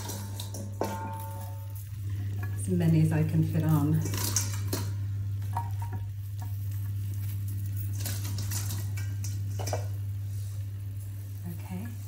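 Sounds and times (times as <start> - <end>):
low hum: 0.0 - 12.0
wet clicks and rustles of vegetables: 0.0 - 12.0.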